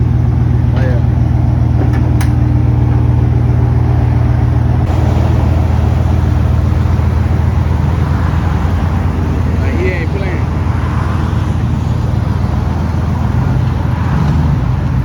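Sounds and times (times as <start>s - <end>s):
loud engine exhaust drone: 0.0s - 15.0s.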